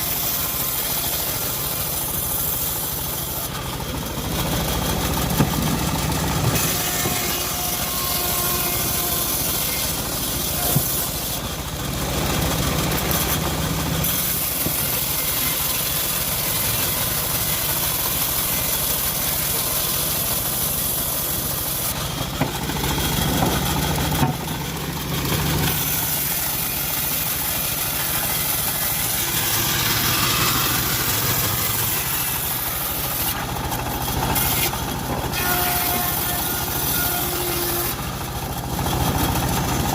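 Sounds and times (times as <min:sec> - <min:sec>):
saw blade cutting hiss: 0:00.0 - 0:03.7, 0:05.3 - 0:11.6, 0:12.9 - 0:24.5, 0:25.3 - 0:38.2
bandsaw mill engine running: 0:00.0 - 0:39.9.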